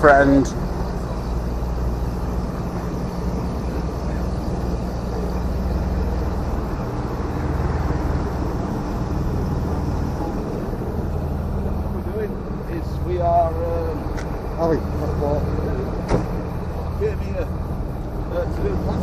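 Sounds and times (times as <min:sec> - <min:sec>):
low mechanical hum: 0:00.0 - 0:19.0
outdoor noise: 0:00.0 - 0:19.0.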